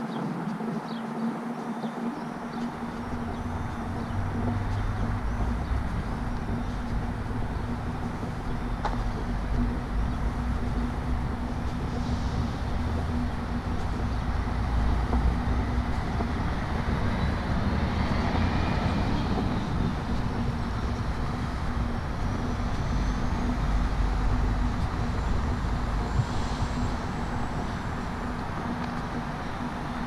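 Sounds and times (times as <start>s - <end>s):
vehicle passing with low rumble: 2.7s - 30.0s.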